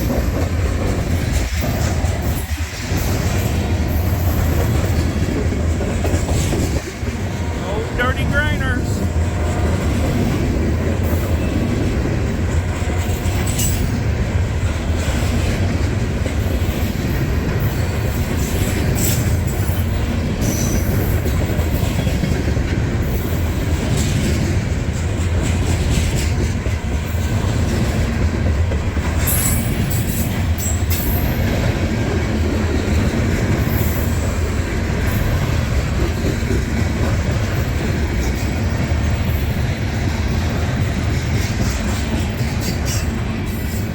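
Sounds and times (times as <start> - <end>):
steel wheels rumbling on rail: 0.0 - 43.9.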